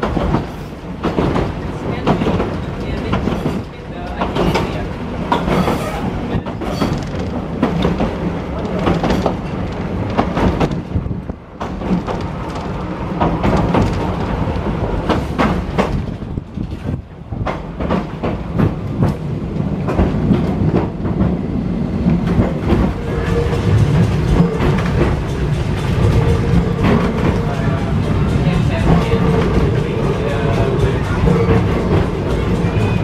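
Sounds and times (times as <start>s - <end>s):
tram running gear rumble: 0.0s - 33.0s
wheels clacking over rail joints: 0.0s - 33.0s.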